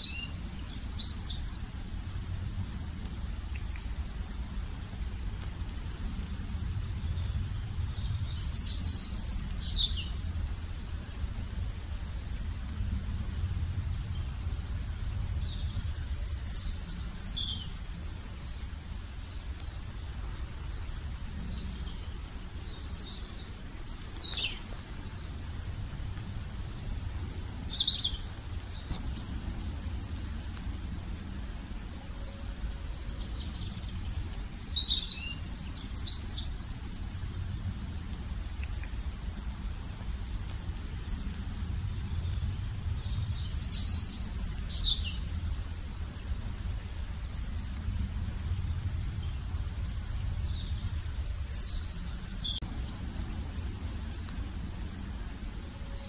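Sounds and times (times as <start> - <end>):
songbirds chirping: 0.0 - 56.0
steady low rumble: 0.0 - 56.0.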